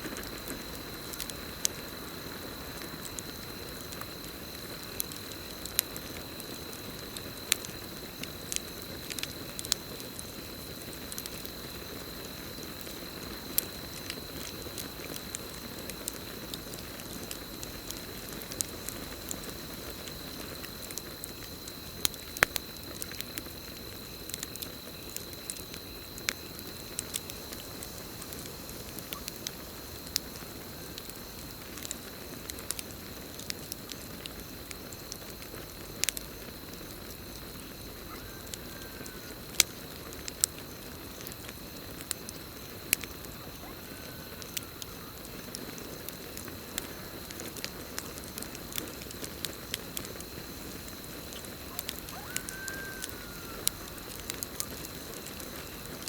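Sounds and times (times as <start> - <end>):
campfire crackling: 0.0 - 56.0
cricket trill: 0.0 - 56.0.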